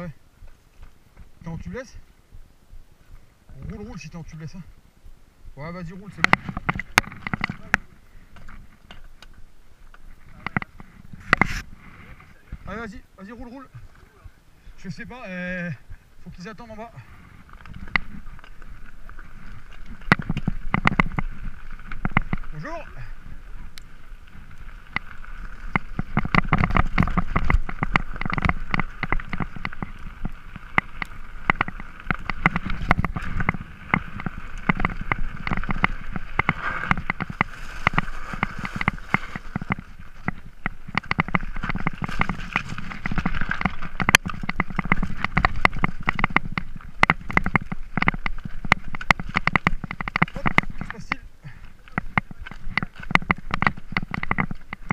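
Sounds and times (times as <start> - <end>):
bike rattling over bumps: 5.5 - 54.9
tyres crunching over stones: 5.7 - 54.9.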